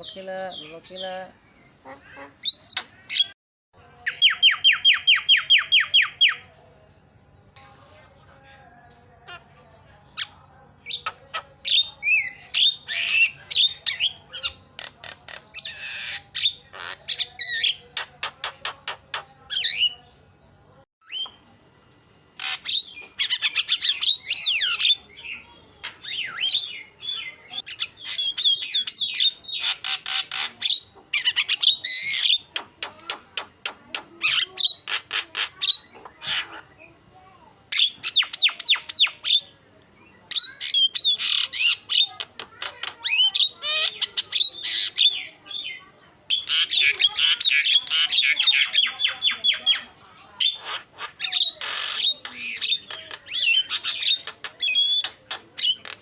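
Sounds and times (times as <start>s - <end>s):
myna chattering: 1.7s - 3.4s, 9.2s - 20.1s, 22.3s - 39.6s, 40.3s - 56.0s.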